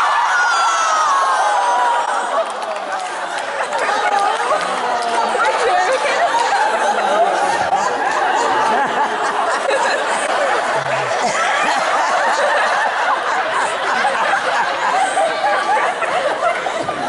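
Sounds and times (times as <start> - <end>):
audience laughing and chattering: 0.0 - 17.0.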